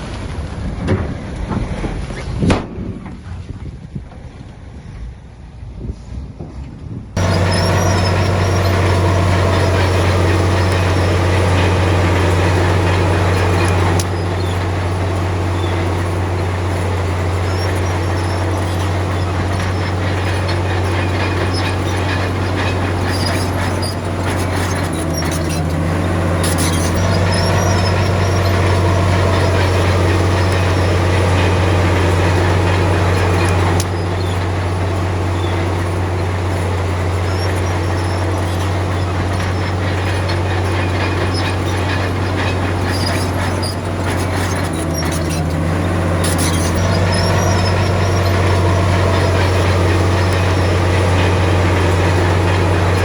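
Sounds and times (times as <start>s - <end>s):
heavy diesel machine droning: 7.2s - 53.0s.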